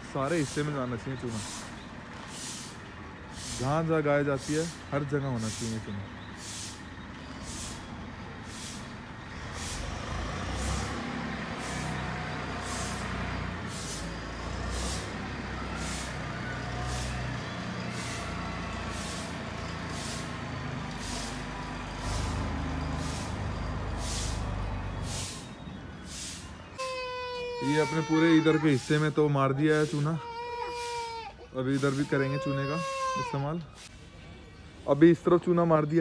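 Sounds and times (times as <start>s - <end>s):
engine rumble: 0.0s - 36.0s.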